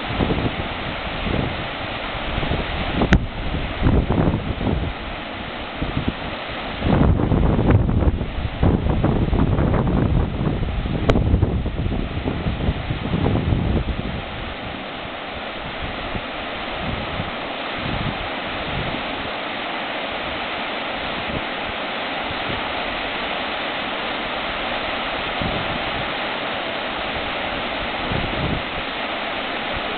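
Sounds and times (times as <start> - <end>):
fast-flowing river water: 0.0 - 29.9
wind gusts on microphone: 0.0 - 29.9.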